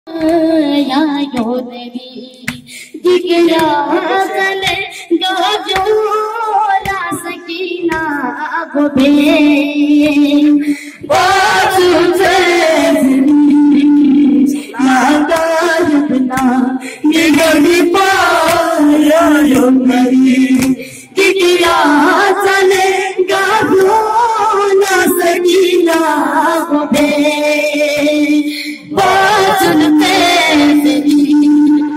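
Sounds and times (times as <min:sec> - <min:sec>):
boy singing lament: 0:00.1 - 0:31.9.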